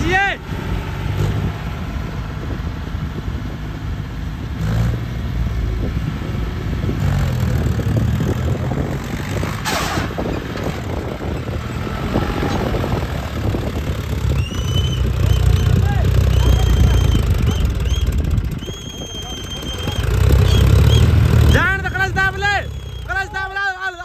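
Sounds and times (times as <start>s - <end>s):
tractor diesel engine revving: 0.0s - 23.6s.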